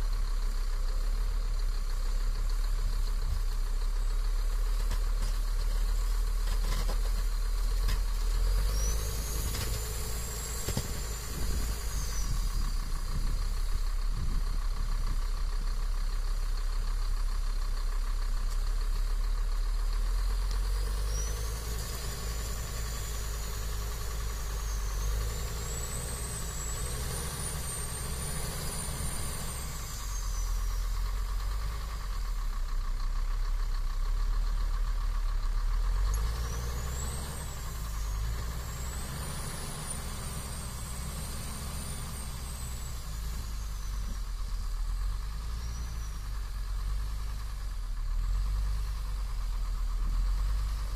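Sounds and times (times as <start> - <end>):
heavy vehicle engine rumbling: 0.0 - 50.9.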